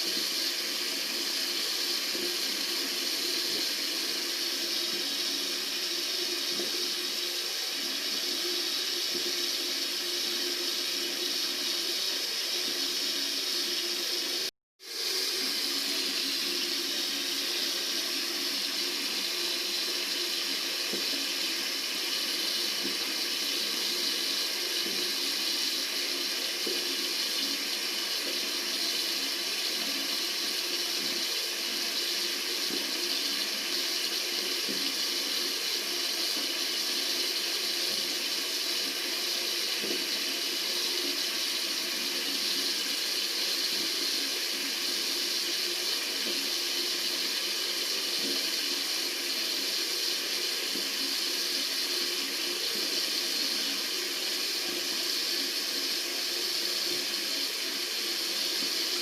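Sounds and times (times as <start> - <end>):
tap water running: 0.0 - 59.0.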